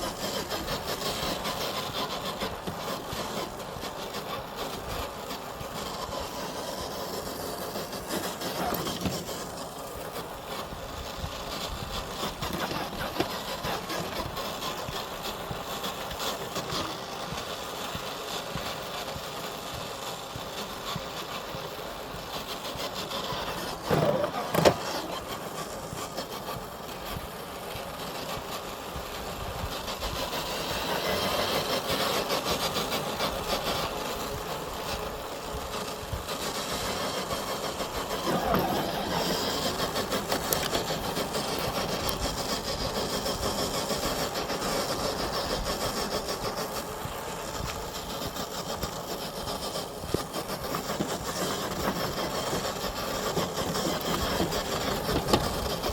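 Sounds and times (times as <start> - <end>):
rc car motor whirring: 0.0 - 55.9.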